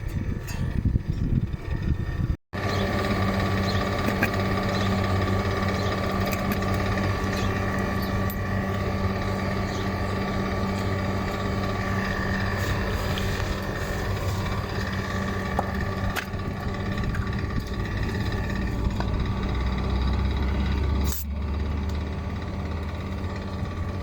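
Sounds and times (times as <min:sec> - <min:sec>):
fan motor humming: 0:00.0 - 0:24.0
irregular rumbling: 0:00.0 - 0:24.0.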